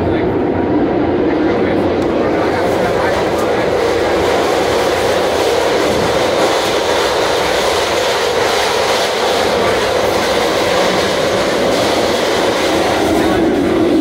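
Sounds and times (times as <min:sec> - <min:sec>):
trolley wheels rumbling on rails: 0:01.6 - 0:14.0.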